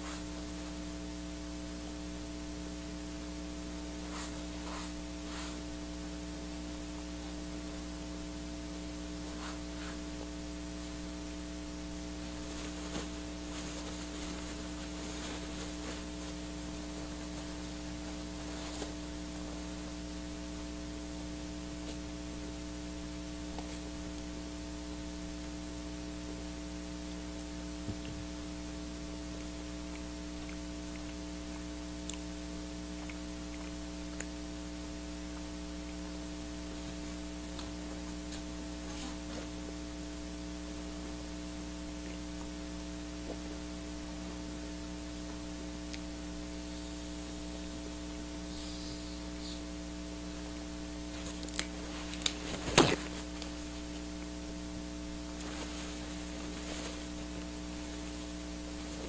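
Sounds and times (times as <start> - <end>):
constant hiss: 0.0 - 59.0
electrical mains hum: 0.0 - 59.0.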